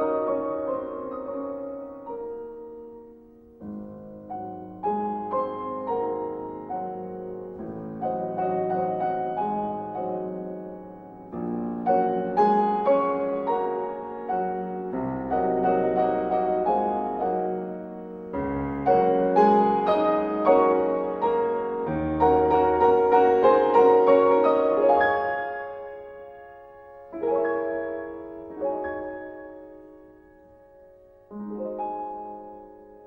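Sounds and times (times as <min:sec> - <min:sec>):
piano chords: 0:00.0 - 0:33.0.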